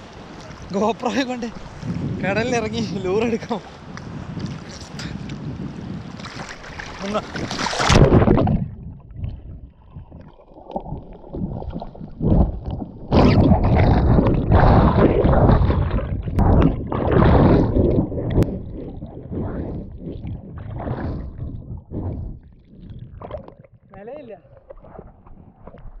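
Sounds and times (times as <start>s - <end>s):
underwater rushing and gurgling water: 0.0s - 26.0s.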